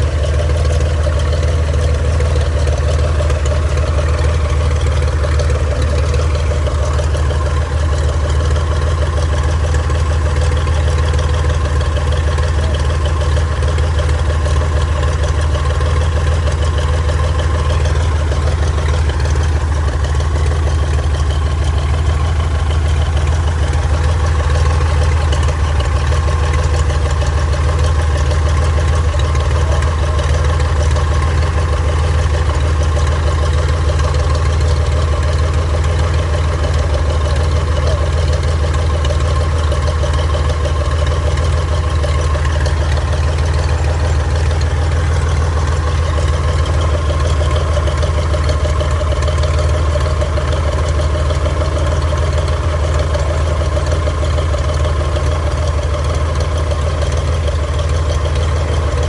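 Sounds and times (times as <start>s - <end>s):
propeller plane engine idling: 0.0s - 59.0s.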